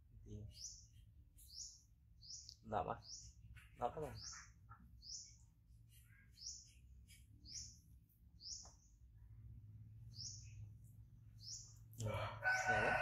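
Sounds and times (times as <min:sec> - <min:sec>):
small bird chirping: 0:00.2 - 0:12.8.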